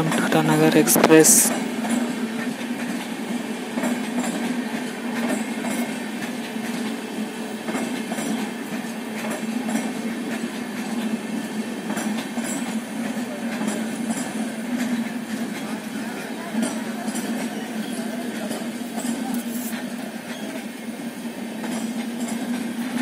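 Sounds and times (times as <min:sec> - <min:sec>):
wheels clicking over rail joints: 0:00.0 - 0:20.9
train wheels rumbling on rails: 0:00.0 - 0:23.0.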